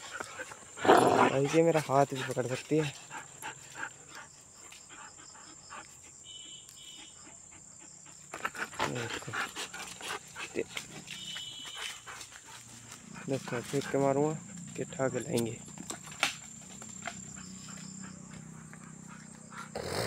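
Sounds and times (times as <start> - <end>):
dogs panting hard: 0.0 - 6.2, 6.9 - 19.8.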